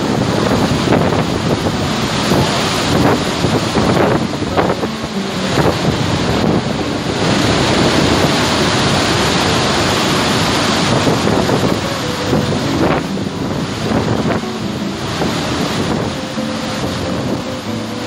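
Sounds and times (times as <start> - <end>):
waterfall rushing: 0.0 - 18.0
wind buffeting microphone: 0.0 - 18.0.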